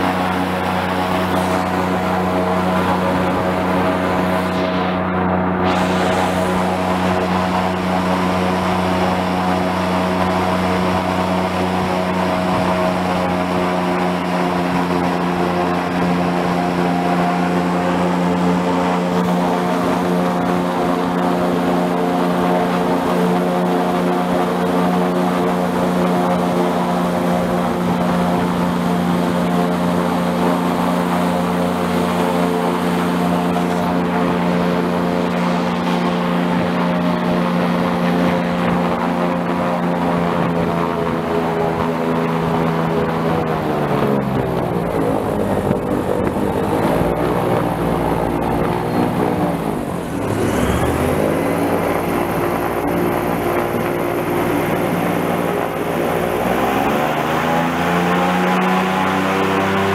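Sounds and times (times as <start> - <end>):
airboat engine and propeller drone: 0.0 - 59.9.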